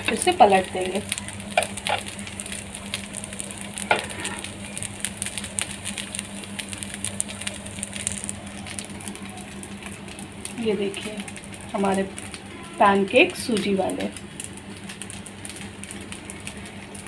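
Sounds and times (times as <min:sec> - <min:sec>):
oil sizzling and crackling: 0:00.0 - 0:17.0
steady low hum: 0:00.0 - 0:17.0.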